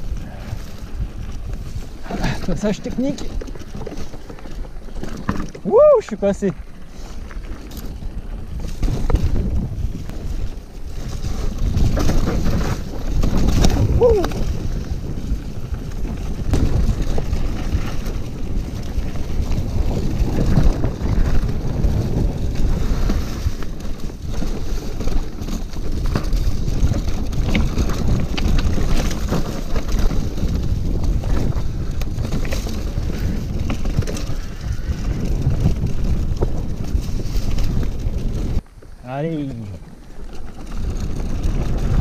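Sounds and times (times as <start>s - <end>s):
bike knocking and rattling: 0.0s - 42.0s
wind buffeting microphone: 0.0s - 42.0s.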